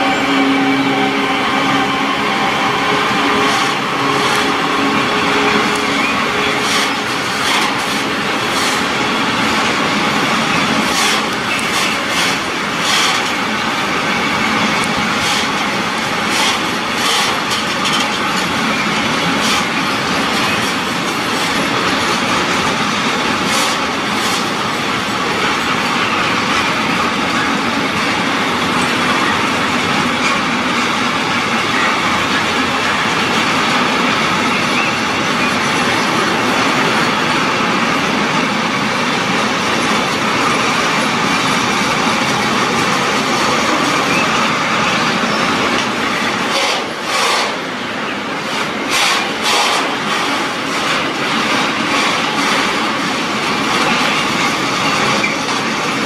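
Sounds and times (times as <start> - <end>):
steel wheels rolling on rail: 0.0 - 56.0.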